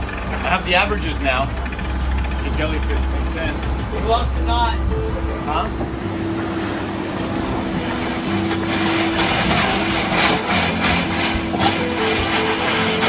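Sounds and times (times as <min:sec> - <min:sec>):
music with long held notes: 0:00.0 - 0:13.0
steady rushing noise: 0:00.0 - 0:13.0.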